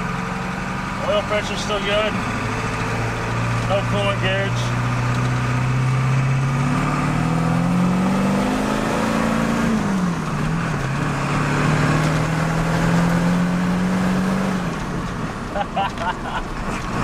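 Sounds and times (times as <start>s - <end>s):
diesel truck engine accelerating: 0.0s - 17.0s.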